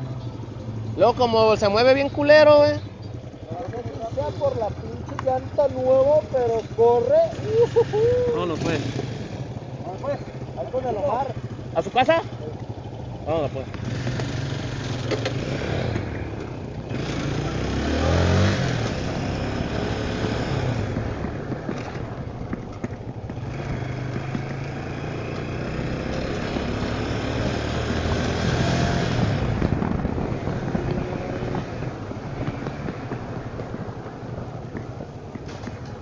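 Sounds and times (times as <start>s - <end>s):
motorcycle engine pulling away: 0.0s - 36.0s.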